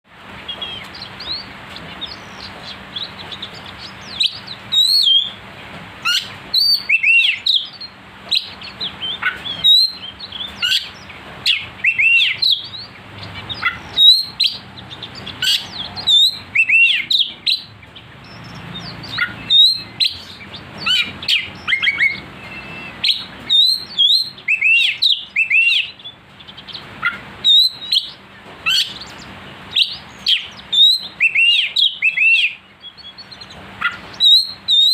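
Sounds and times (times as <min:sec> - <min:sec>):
bird singing whistled notes: 0:00.5 - 0:05.4, 0:06.0 - 0:26.8, 0:27.4 - 0:34.9.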